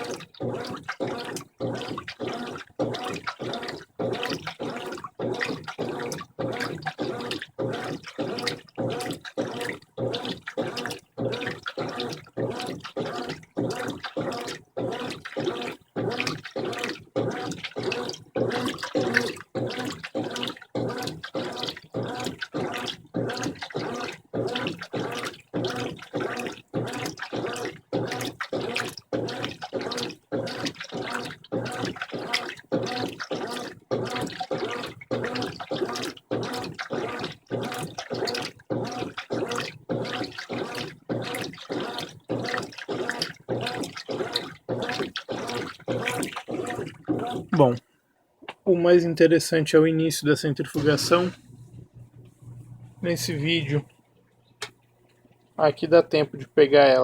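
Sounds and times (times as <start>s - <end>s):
washing machine sloshing: 0.0s - 47.8s, 48.7s - 57.0s.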